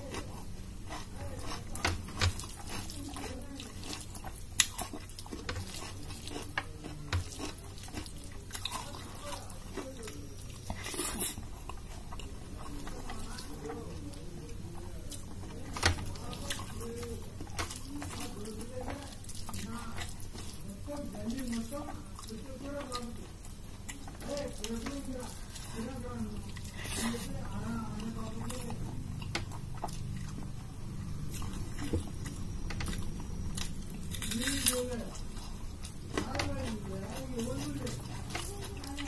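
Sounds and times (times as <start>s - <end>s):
wet chewing: 0.0s - 39.0s.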